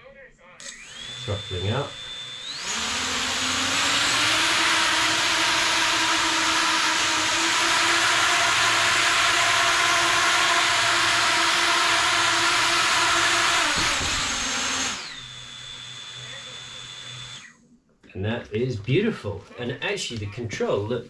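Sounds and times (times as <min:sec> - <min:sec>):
quadcopter motors whirring: 0:00.6 - 0:17.6.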